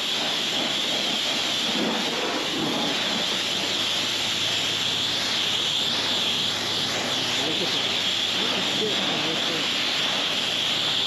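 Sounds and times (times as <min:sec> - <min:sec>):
steady hissing rush: 0:00.0 - 0:11.0.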